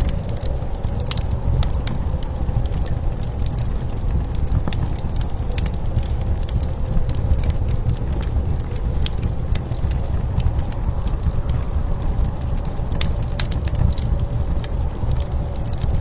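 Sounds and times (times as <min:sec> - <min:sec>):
low rumble of blizzard wind: 0:00.0 - 0:16.0
wood fire crackling and popping: 0:00.0 - 0:16.0.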